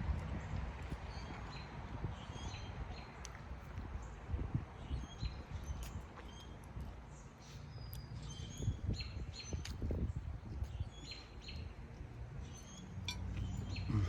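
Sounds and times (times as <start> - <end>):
small birds chirping: 0.1 - 14.0.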